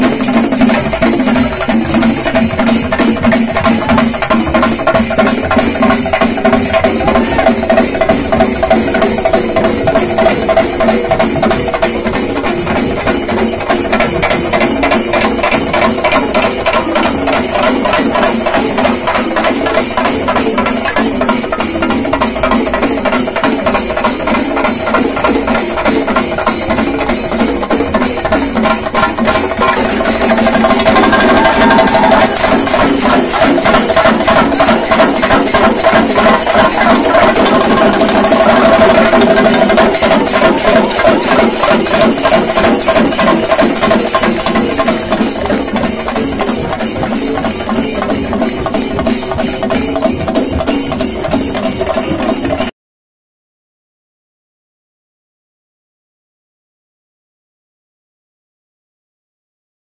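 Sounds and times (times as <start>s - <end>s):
hand cymbals ringing: 0.0s - 52.4s
drums beaten fast: 0.0s - 52.7s.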